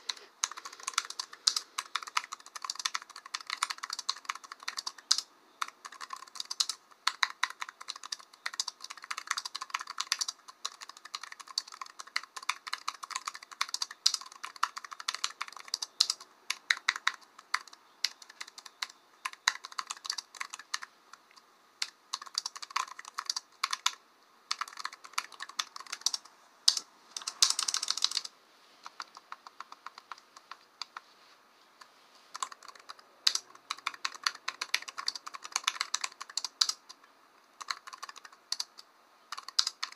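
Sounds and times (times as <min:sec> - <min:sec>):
typing on computer keyboard: 0:00.0 - 0:31.0, 0:32.3 - 0:39.9.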